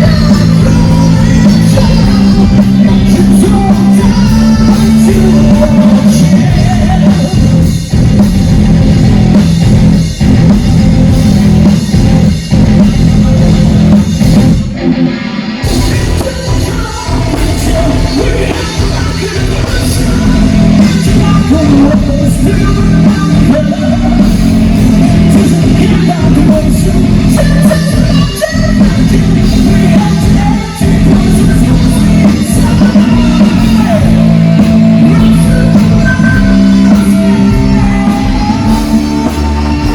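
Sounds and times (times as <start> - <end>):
rock music with singer: 0.0 - 39.9.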